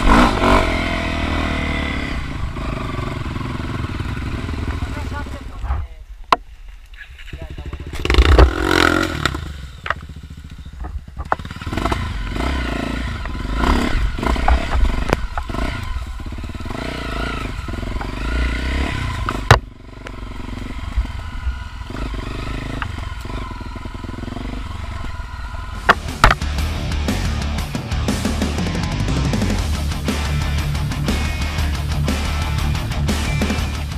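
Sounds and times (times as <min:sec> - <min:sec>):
dirt bike engine revving: 0:00.0 - 0:05.6, 0:07.2 - 0:33.9.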